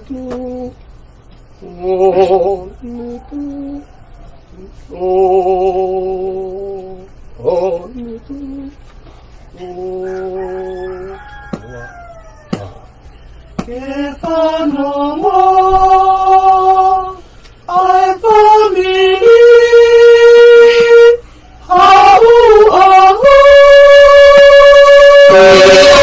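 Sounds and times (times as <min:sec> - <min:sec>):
family singing a hymn: 0:00.0 - 0:00.8, 0:01.6 - 0:11.8, 0:12.5 - 0:26.0.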